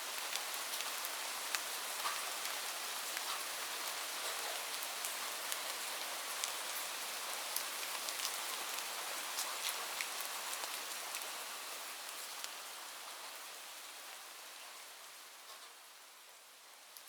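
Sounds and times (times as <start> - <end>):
rain drops ticking on surface: 0.0 - 17.0.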